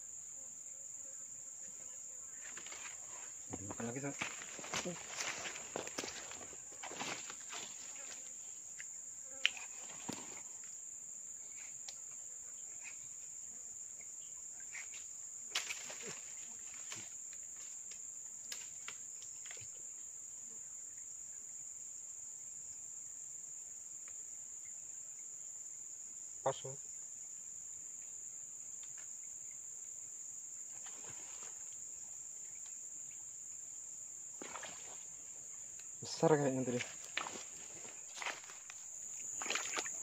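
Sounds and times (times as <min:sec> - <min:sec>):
insects buzzing: 0:00.0 - 0:40.0.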